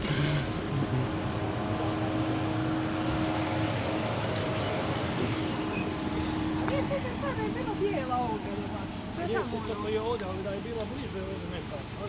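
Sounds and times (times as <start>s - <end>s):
faint constant drone: 0.0s - 12.0s.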